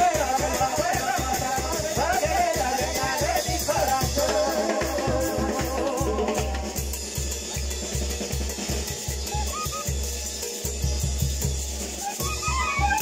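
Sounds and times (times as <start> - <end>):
band melody: 0.0 - 13.0
drum and bass beat: 0.0 - 13.0.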